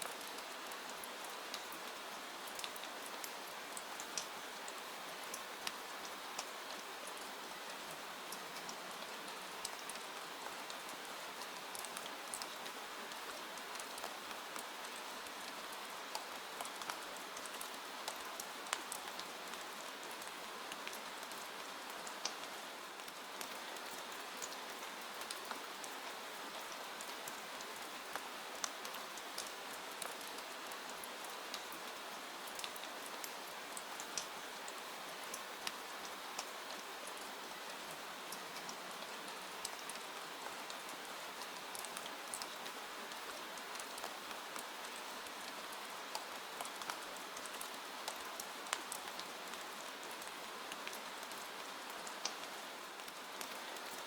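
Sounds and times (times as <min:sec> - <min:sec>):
raindrops ticking on a surface: 0:00.0 - 0:54.0.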